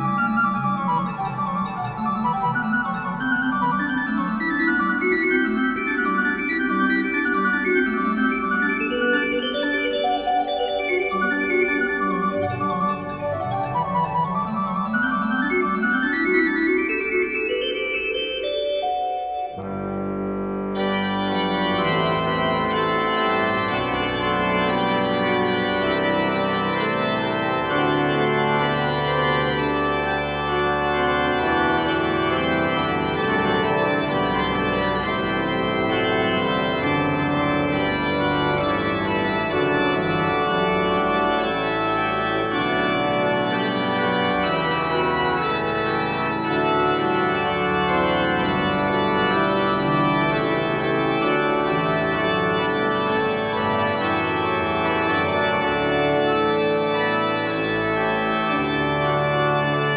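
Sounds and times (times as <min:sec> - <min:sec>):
slow organ chords: 0:00.0 - 0:59.9.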